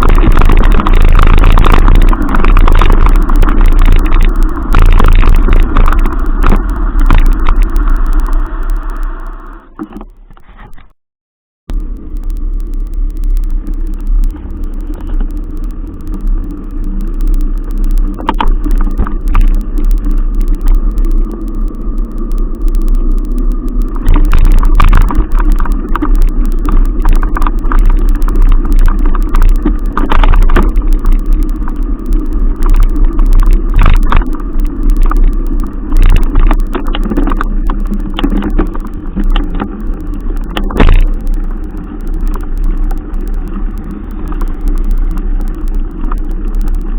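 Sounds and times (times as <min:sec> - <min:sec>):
vehicle engine drone: 0:00.0 - 0:10.9, 0:11.7 - 0:46.9.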